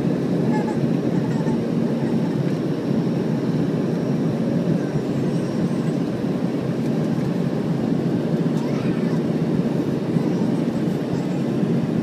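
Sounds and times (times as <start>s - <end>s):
airflow over fuselage: 0.0s - 12.0s
jet engines droning: 0.0s - 12.0s.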